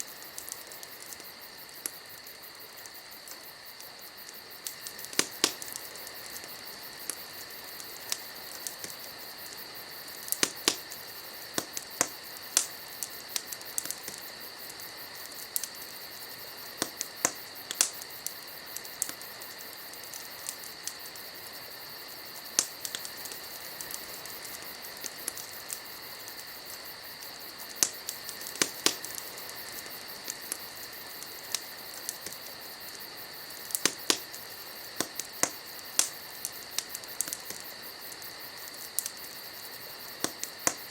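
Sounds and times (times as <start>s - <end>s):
wood fire pops and snaps: 0.0s - 21.3s, 22.2s - 40.9s
steady high hiss: 0.0s - 40.9s.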